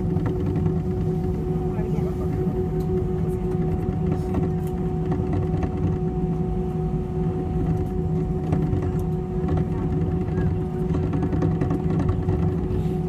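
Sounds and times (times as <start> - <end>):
airplane engines idling: 0.0 - 13.0.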